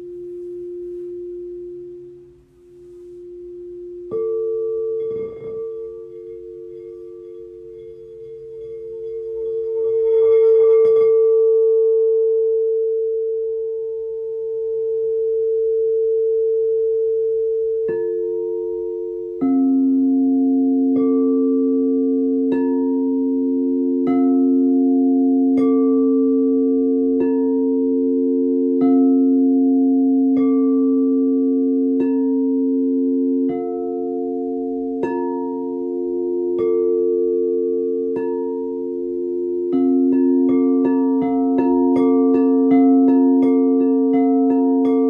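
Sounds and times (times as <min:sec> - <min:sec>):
singing bowl ringing: 0:00.0 - 0:45.0.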